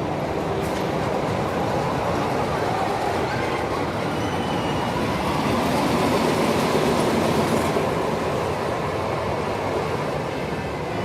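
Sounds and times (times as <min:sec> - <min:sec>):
wheels rumbling on rail track: 0:00.0 - 0:11.0.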